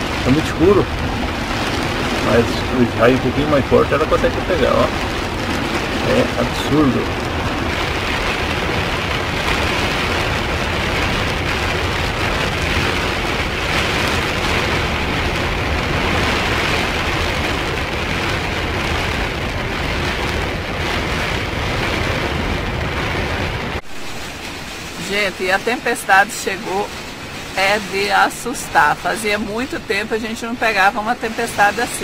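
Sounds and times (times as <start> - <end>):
heavy rain drumming on vehicle: 0.0 - 32.0.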